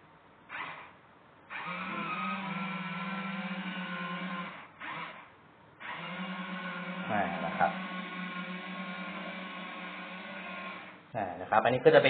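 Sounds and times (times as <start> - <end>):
electric motors whirring: 0.5 - 0.9, 1.5 - 11.0.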